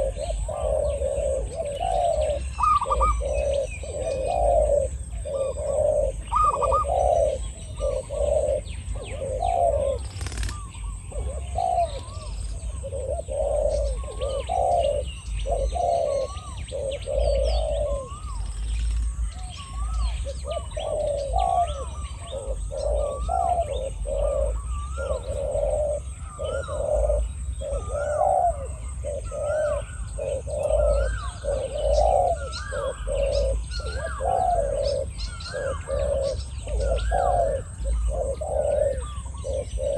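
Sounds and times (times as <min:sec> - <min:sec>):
doves cooing: 0:00.0 - 0:39.9
higher-pitched dove calls: 0:00.0 - 0:39.9.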